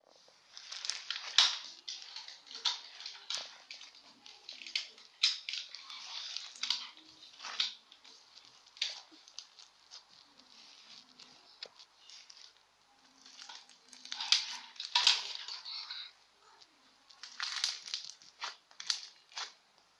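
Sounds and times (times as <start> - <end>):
slime crackling and squishing: 0.0 - 19.9.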